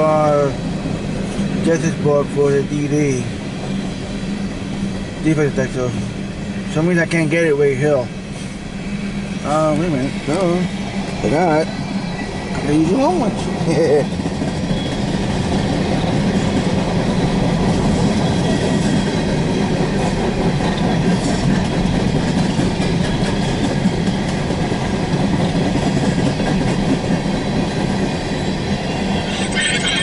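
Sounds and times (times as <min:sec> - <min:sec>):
freight train rumbling: 0:00.0 - 0:30.0
wheels clacking on rails: 0:00.0 - 0:30.0.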